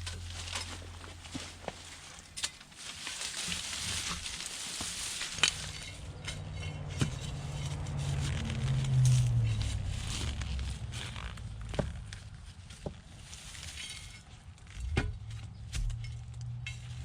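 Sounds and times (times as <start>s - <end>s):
low steady hum: 0.0s - 17.0s
straw and soil rustling: 0.0s - 17.0s.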